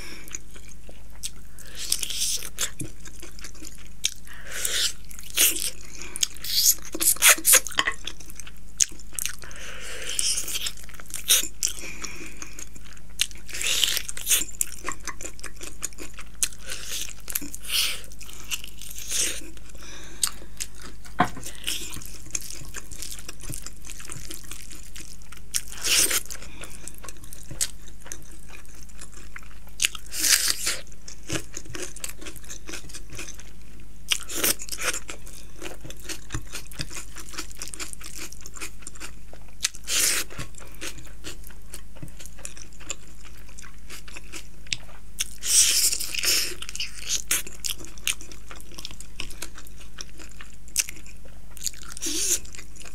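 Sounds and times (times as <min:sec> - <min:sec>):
food crunching: 0:00.2 - 0:52.9.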